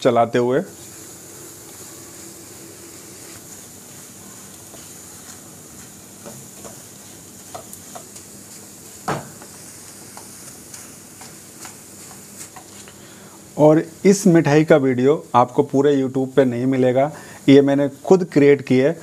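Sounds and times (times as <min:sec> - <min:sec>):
faint sizzle: 0:00.0 - 0:19.0.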